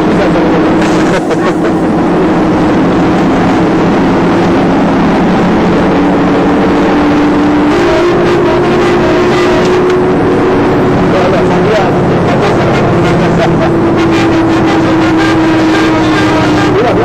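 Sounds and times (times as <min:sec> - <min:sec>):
road noise rushing: 0:00.0 - 0:17.0
vehicle engine drone: 0:00.0 - 0:17.0.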